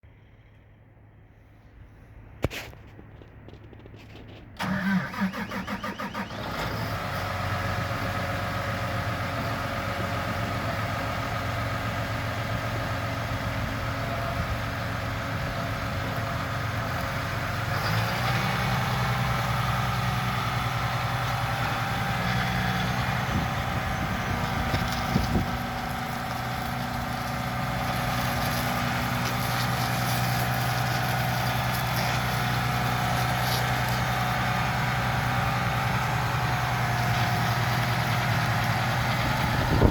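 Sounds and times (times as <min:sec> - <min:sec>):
tractor diesel engine idling: 0:03.1 - 0:39.9.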